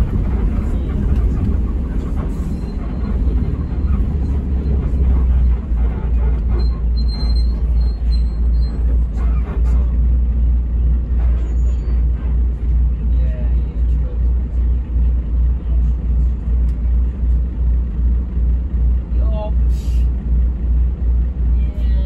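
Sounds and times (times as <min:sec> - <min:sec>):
coach engine and road rumble: 0:00.0 - 0:22.0.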